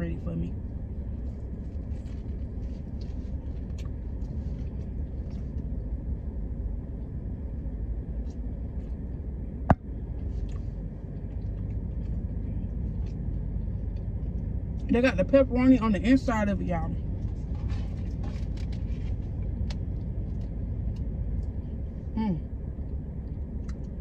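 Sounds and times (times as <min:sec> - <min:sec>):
car engine and air conditioning rumble: 0:00.0 - 0:24.0.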